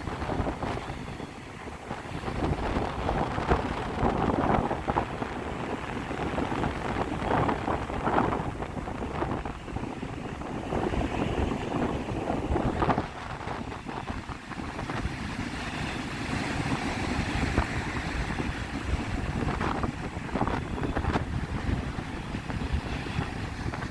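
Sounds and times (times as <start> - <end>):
surf washing on beach: 0.0 - 23.9
wind buffeting microphone: 0.0 - 23.9.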